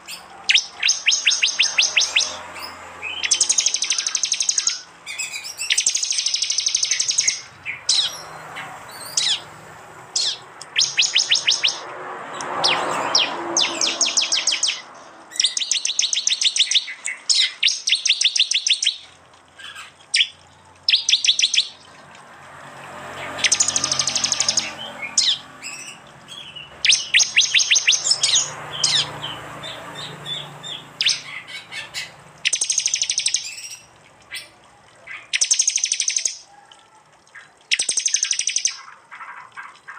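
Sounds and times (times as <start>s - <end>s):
bird calling rapid sharp notes: 0.0s - 8.3s, 10.2s - 11.8s, 12.6s - 21.9s, 23.2s - 36.5s, 37.4s - 39.9s.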